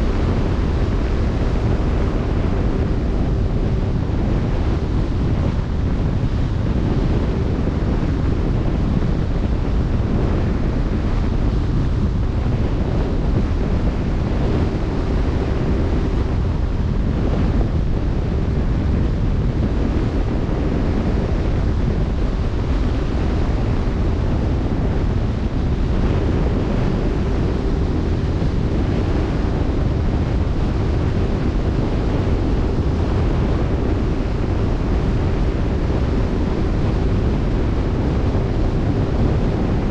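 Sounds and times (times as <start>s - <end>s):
faint steady hum: 0.0s - 39.9s
wind buffeting microphone: 0.0s - 39.9s.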